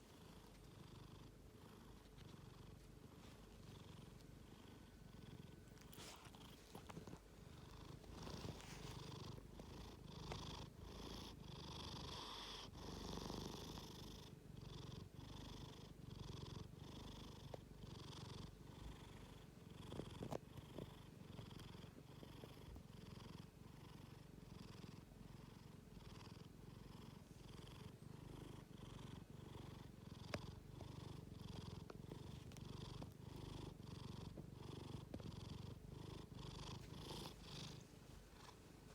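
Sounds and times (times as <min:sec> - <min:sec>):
pet snoring softly: 0:00.0 - 0:38.9.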